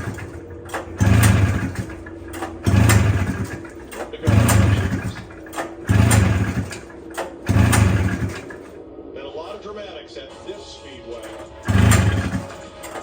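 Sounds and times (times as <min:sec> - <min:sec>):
snowmobile engine cranking: 0:00.0 - 0:08.7, 0:11.2 - 0:13.0.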